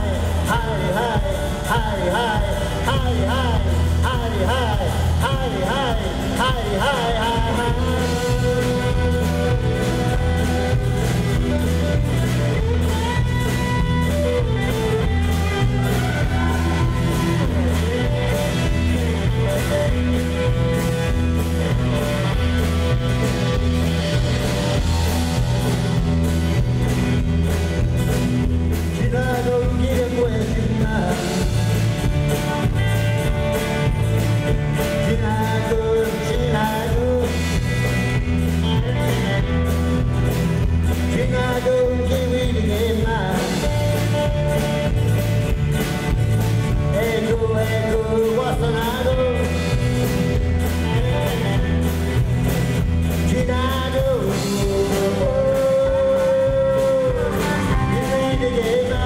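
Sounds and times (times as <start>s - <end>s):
man singing: 0.0s - 26.3s, 28.7s - 32.7s, 34.6s - 40.1s, 40.8s - 44.9s, 46.6s - 59.0s
acoustic guitar: 0.0s - 59.0s
drum kit steady beat: 0.0s - 59.0s
electric bass: 0.0s - 59.0s.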